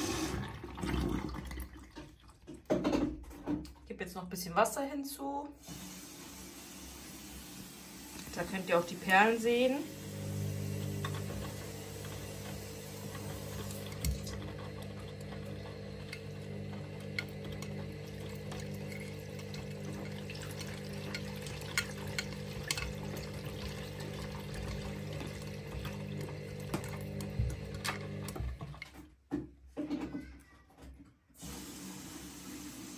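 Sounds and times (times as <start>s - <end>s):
washing machine motor hum: 0.0s - 3.0s, 5.6s - 29.4s, 31.4s - 32.9s.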